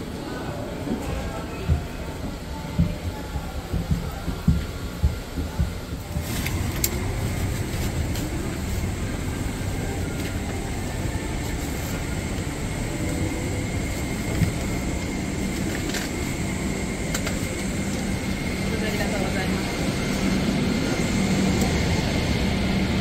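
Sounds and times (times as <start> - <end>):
cabin air system hum: 1.2 - 23.0.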